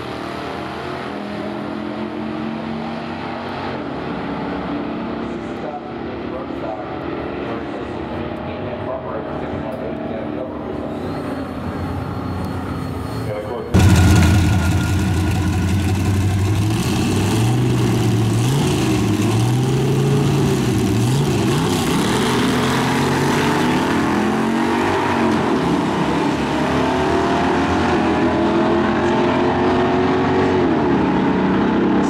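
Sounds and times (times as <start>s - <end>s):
drag race car engines accelerating: 0.0s - 32.0s.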